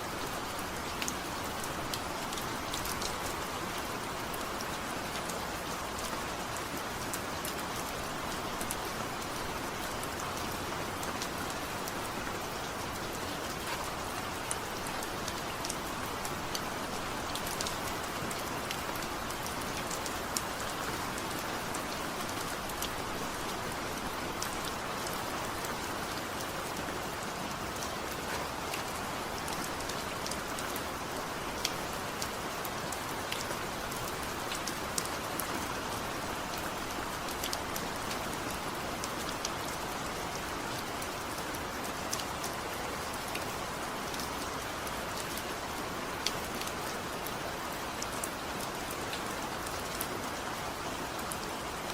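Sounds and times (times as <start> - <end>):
raindrops striking close by: 0.0 - 51.9.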